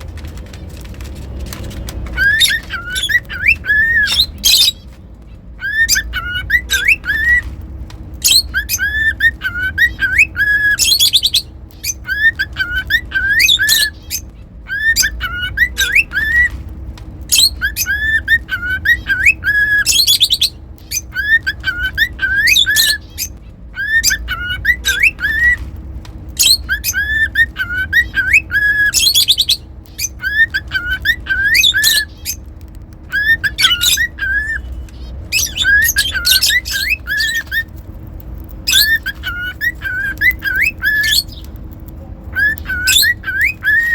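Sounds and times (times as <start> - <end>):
shrill chirping call: 2.0 - 7.6, 8.2 - 16.6, 17.3 - 25.7, 26.4 - 37.9, 38.6 - 41.7, 42.3 - 43.9
cockatiel whistling a tune: 2.1 - 4.8, 5.6 - 7.5, 8.2 - 16.6, 17.3 - 25.7, 26.4 - 32.4, 33.0 - 37.7, 38.6 - 41.5, 42.3 - 43.9.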